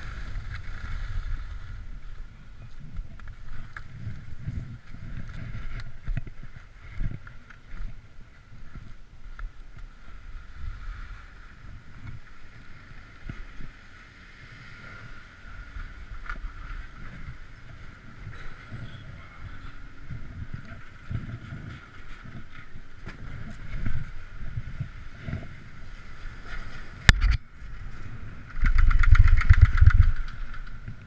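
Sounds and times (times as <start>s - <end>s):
wind buffeting microphone: 0.0s - 14.0s, 14.6s - 31.0s
chairlift high hum: 0.0s - 31.0s.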